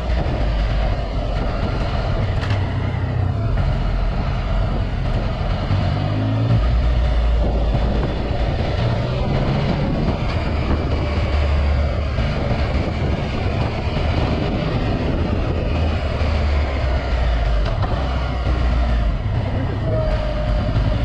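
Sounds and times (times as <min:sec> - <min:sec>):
motorcycle engine running: 0:00.0 - 0:21.0
wind noise: 0:00.0 - 0:21.0.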